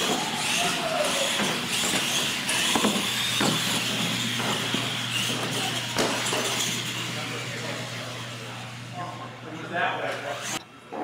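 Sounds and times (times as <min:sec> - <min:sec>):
tyres running on concrete: 0:00.0 - 0:10.6
electric motors and gears whining: 0:00.0 - 0:11.0.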